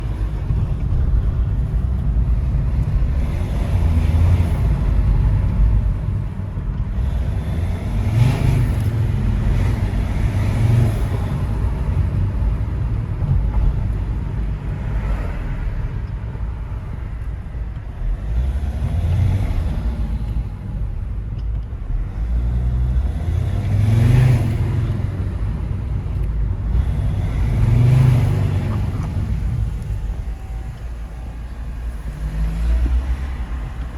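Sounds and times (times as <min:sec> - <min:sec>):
diesel engine revving: 0:00.0 - 0:16.0, 0:16.6 - 0:33.9.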